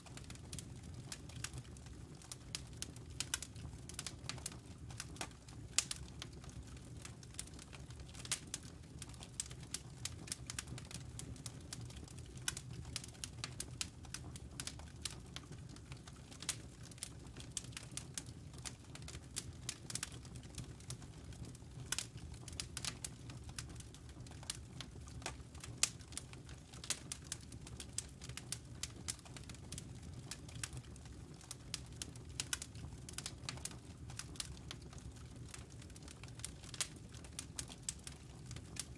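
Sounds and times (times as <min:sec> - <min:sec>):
campfire crackling and popping: 0:00.0 - 0:38.9
low steady fire rumble: 0:00.0 - 0:38.9.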